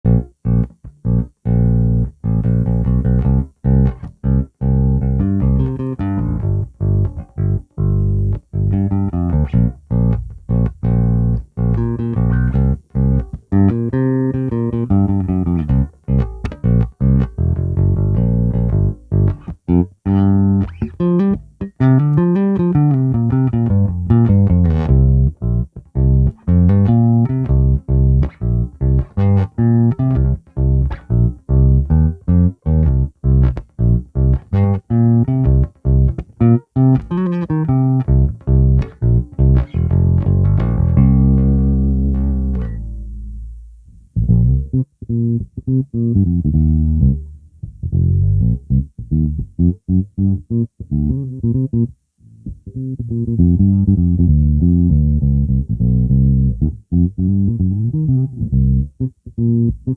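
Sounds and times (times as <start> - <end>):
bass guitar plucked notes: 0.0 - 59.9.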